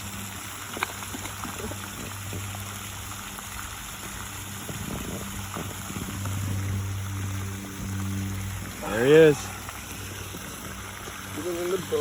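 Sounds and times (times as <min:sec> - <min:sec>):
steady low hum: 0:00.0 - 0:12.0
water splashing and trickling: 0:00.0 - 0:12.0.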